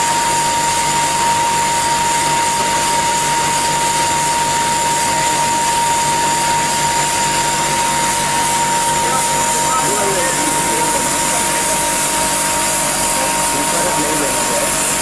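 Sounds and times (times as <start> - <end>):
printing machine hissing and whining: 0.0 - 15.0.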